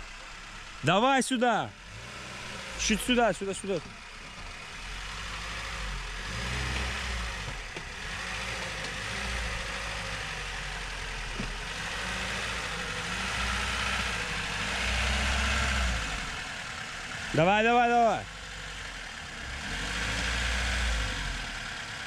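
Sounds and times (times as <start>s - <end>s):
car engine running at low revs: 0.0s - 22.0s.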